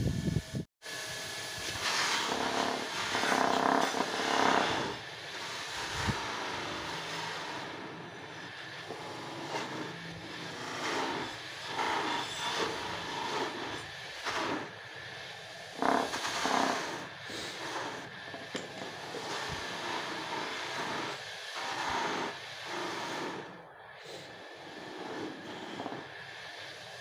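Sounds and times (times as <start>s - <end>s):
buffing wheel scraping metal: 1.6s - 27.0s.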